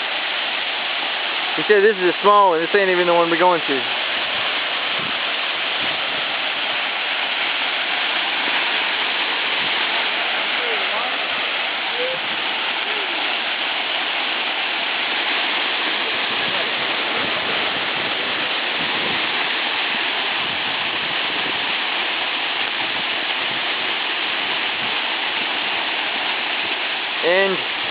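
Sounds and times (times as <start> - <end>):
waterfall roaring: 0.0 - 27.9.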